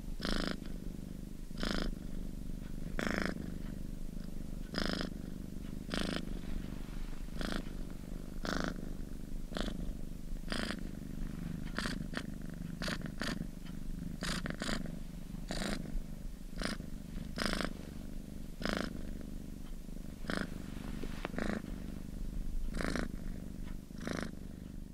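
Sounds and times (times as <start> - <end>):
cat purring: 0.0 - 24.9.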